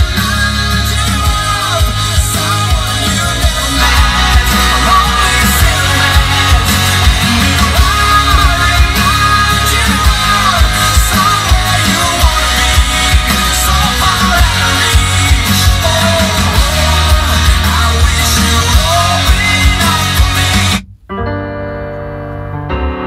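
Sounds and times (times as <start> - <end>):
rock song through car stereo: 0.0 - 21.1.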